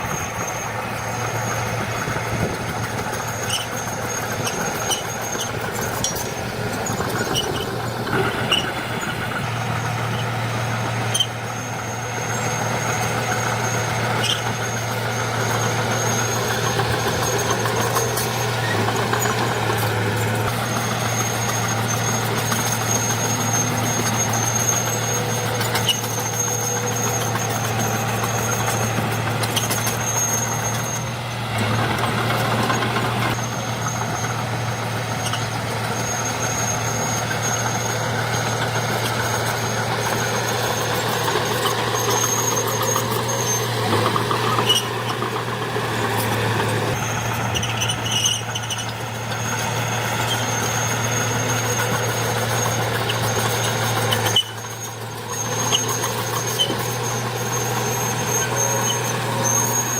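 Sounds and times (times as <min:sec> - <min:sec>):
heavy diesel machinery running: 0:00.0 - 0:59.9
thin high squeal: 0:00.0 - 0:59.9.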